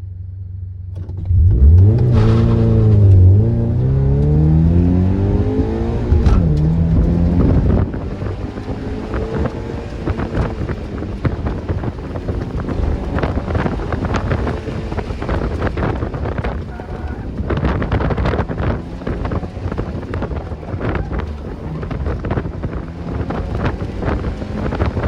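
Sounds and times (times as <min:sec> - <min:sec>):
car engine accelerating: 0:00.9 - 0:25.0
wind buffeting microphone: 0:01.5 - 0:25.0.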